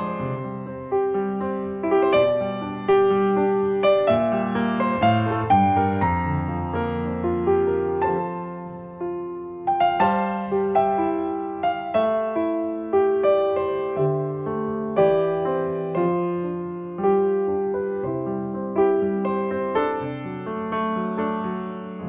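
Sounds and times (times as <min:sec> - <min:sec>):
slow gentle piano: 0:00.0 - 0:22.0.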